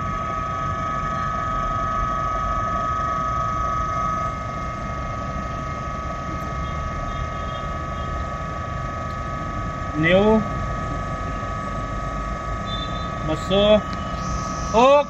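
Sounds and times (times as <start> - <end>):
hydraulic pump whining: 0.0 - 15.0.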